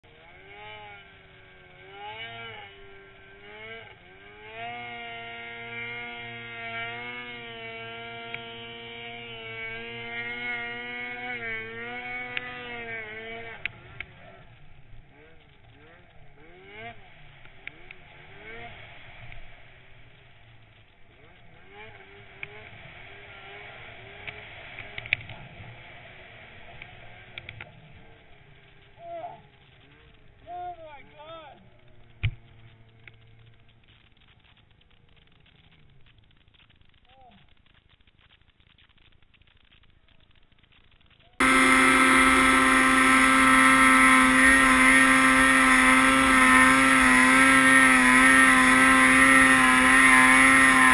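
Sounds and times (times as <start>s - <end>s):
snowmobile engine revving: 0.0s - 20.2s, 20.8s - 33.4s, 41.4s - 50.9s.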